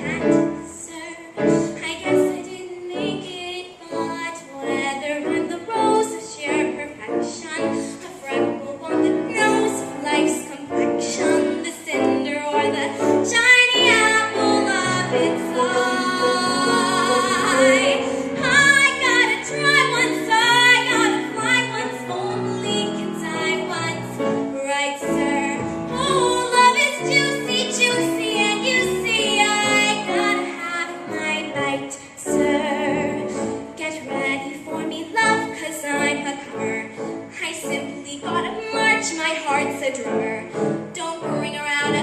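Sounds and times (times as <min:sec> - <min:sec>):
instrumental accompaniment: 0:00.0 - 0:42.0.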